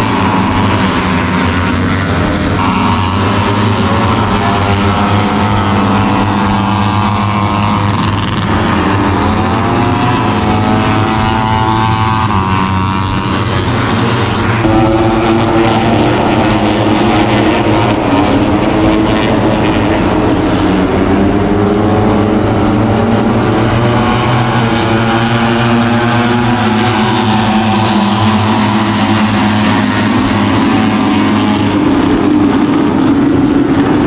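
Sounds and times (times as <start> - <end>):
low rumble: 0.0 - 34.0
racing motorcycles passing: 0.0 - 34.0.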